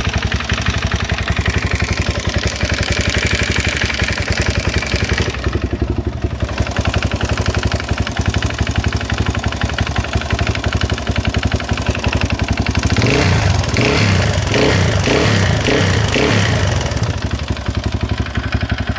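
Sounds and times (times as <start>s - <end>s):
quad engine idling and revving: 0.0s - 18.9s.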